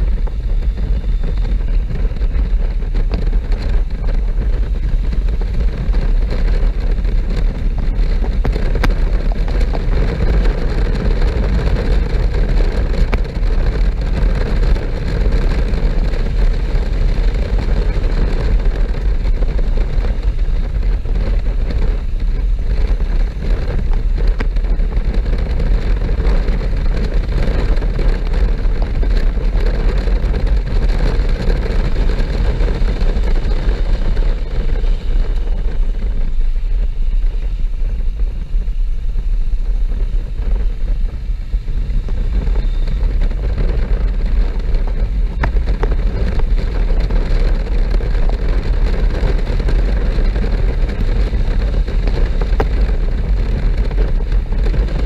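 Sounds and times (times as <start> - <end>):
motorcycle engine riding: 0.0 - 55.0
road noise: 0.0 - 55.0
wind rushing over microphone: 0.0 - 55.0.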